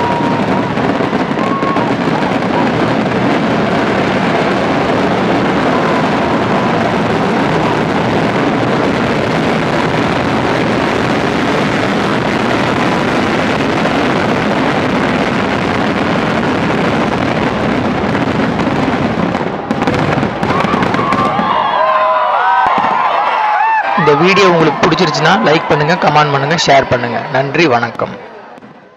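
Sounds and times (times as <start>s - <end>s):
fireworks crackling: 0.0s - 28.9s.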